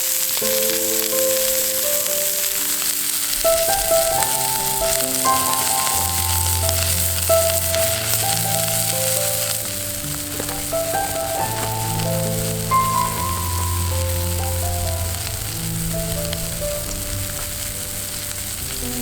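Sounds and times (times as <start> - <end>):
slow background music: 0.0 - 19.0
steak sizzling over fire: 0.0 - 19.0.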